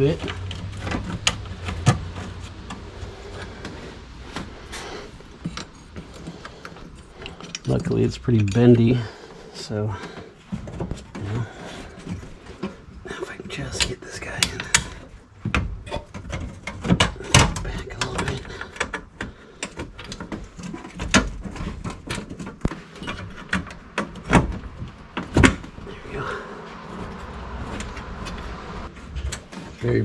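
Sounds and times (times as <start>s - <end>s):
plastic parts knocking and scraping: 0.0s - 30.0s.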